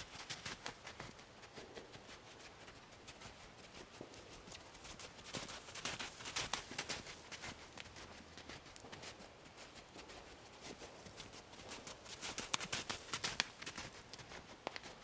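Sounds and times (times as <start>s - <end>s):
hoofbeats on sandy gravel: 0.0s - 15.0s.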